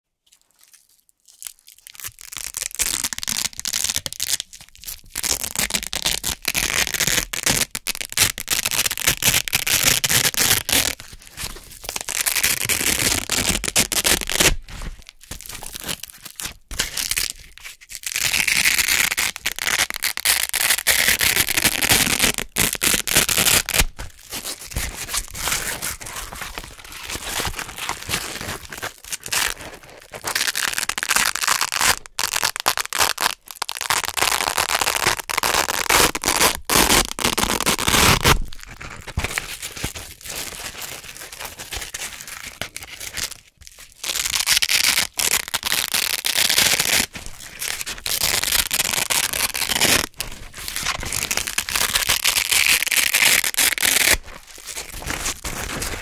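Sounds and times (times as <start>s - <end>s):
velcro ripping apart: 1.4s - 56.0s.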